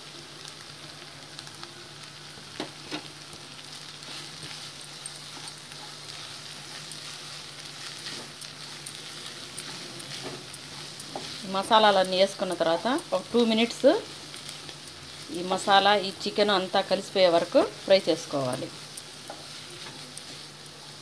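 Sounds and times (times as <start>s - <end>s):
chicken sizzling in oil: 0.0s - 21.0s.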